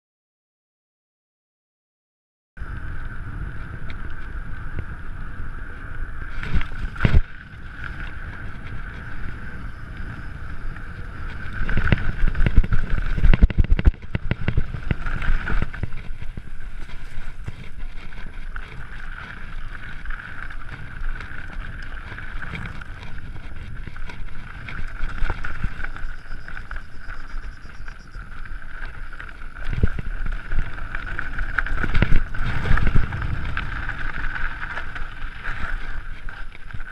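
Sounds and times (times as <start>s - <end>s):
bike tyres rumbling over gravel: 2.6s - 36.9s
wind buffeting microphone: 2.6s - 36.9s.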